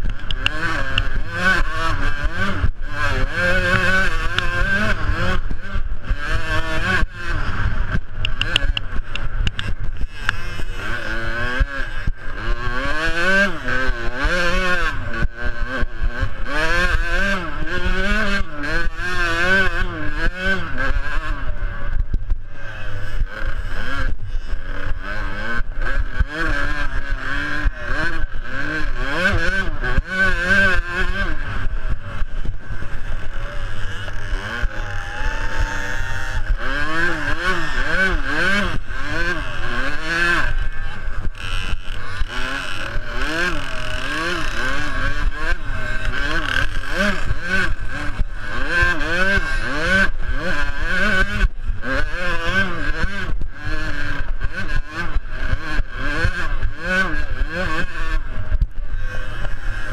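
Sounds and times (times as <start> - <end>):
two-stroke dirt bikes revving: 0.0 - 59.9.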